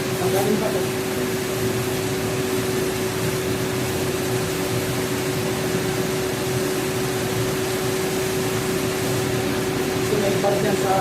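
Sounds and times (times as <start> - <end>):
machine whirring hum: 0.0 - 11.0.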